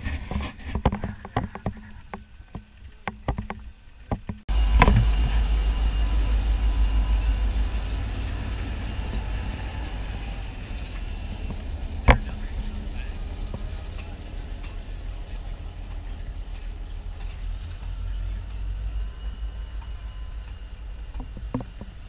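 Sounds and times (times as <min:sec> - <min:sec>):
locomotive engine rumble: 0:00.0 - 0:22.0.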